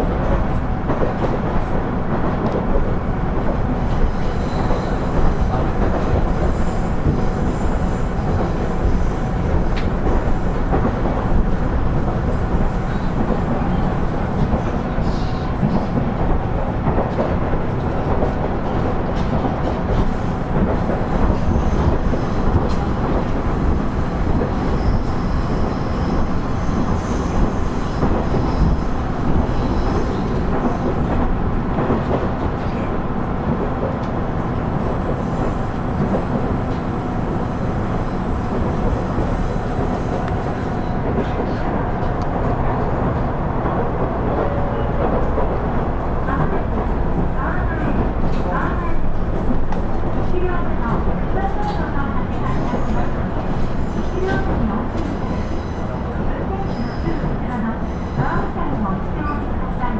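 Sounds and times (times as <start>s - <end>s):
diesel railcar rumbling on rails: 0.0s - 59.9s.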